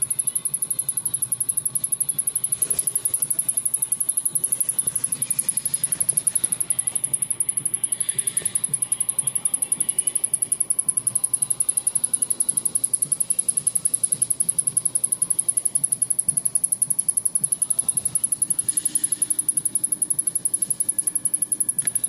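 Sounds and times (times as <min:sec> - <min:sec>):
rapid high-pitched electrical ticking: 0:00.0 - 0:22.0.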